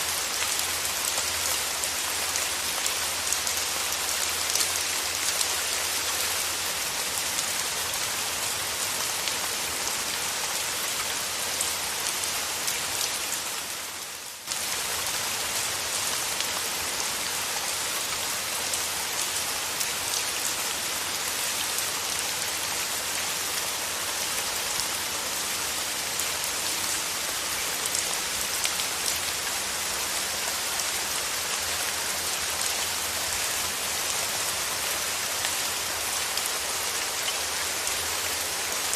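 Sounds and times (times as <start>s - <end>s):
dense rain: 0.0s - 38.9s.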